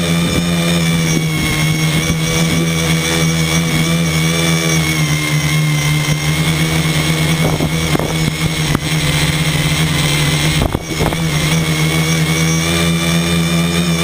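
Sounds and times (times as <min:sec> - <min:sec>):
drone motors humming and whining: 0:00.0 - 0:14.0.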